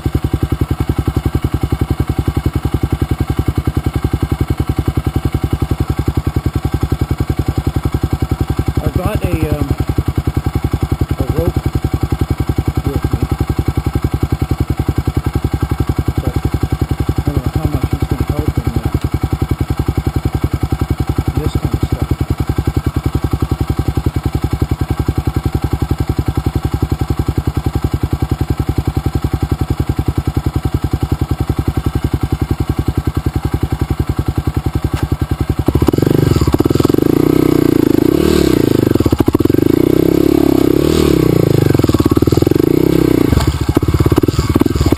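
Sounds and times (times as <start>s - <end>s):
dirt bike engine idling and revving: 0.0s - 44.9s.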